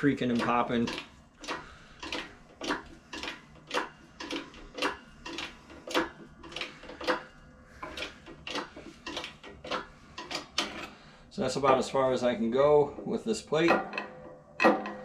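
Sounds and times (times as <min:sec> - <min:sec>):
hydraulic jack clicking and clanking: 0:00.0 - 0:12.0, 0:13.0 - 0:15.0.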